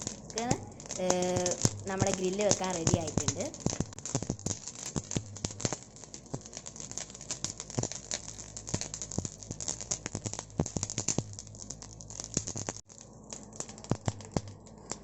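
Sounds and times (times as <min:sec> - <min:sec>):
charcoal crackling and popping: 0:00.0 - 0:15.0.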